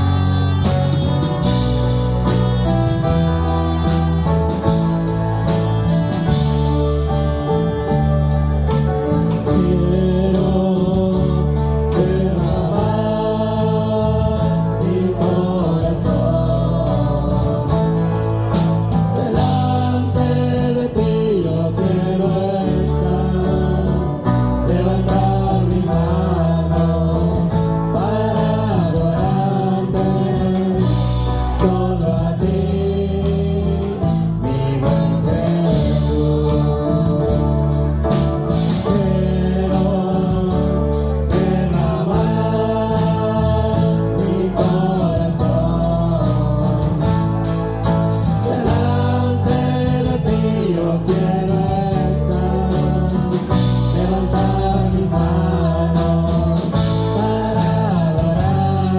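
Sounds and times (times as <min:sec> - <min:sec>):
voices singing with band: 0:00.0 - 0:58.9.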